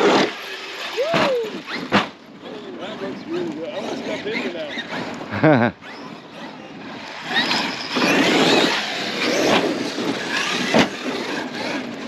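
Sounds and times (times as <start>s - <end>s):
tyres on gravel: 0.0s - 12.0s.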